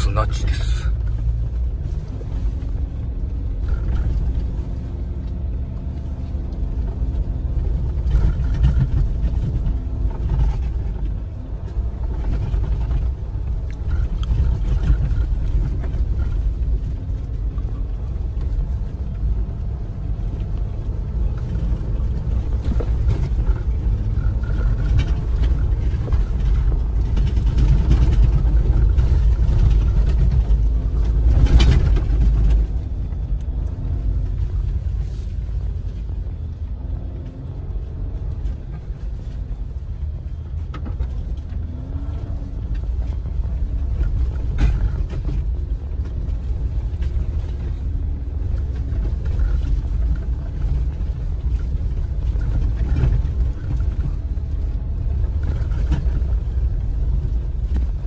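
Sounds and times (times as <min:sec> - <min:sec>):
off-road vehicle driving on sand: 0:00.0 - 0:58.0.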